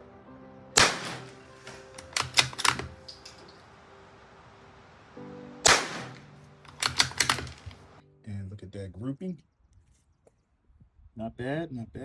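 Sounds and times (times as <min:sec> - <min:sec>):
faint background hiss: 0:00.0 - 0:09.8.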